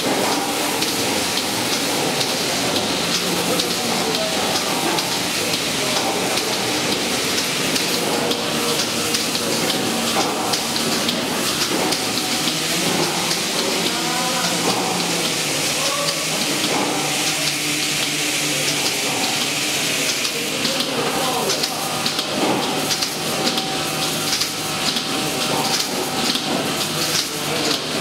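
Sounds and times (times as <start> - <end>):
milking machines hissing: 0.0 - 28.0.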